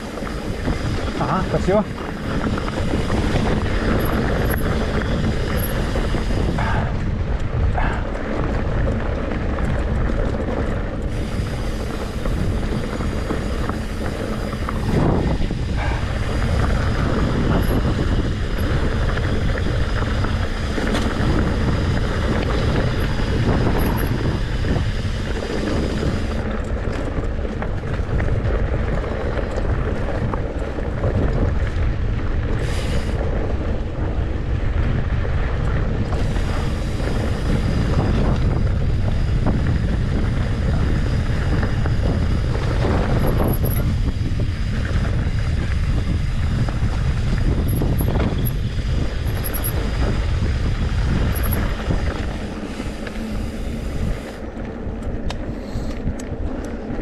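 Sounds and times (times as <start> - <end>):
tyres rolling on dirt: 0.0 - 57.0
wind on microphone: 0.0 - 57.0.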